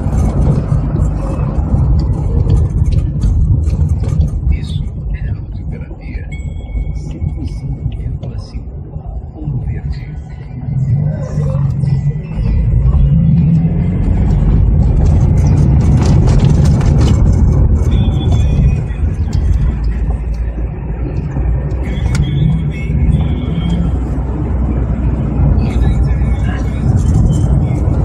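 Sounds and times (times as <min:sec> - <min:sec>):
car engine running: 0:00.0 - 0:28.0
road noise: 0:00.0 - 0:28.0.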